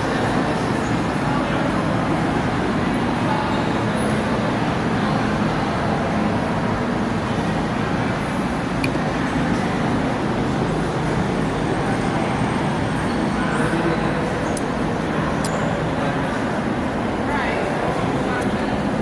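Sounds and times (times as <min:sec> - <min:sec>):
subway station rumble: 0:00.0 - 0:19.0.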